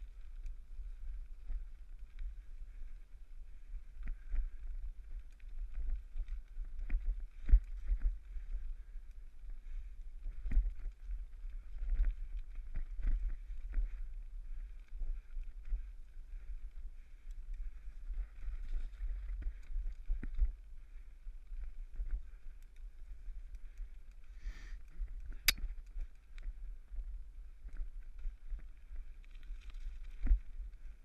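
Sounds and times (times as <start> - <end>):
wind and tyre rumble: 0.0 - 31.0.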